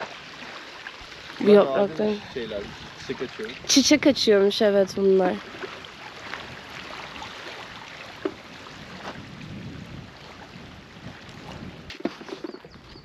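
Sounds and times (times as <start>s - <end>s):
small waves lapping on stones: 0.0s - 12.7s
wind: 0.0s - 13.0s.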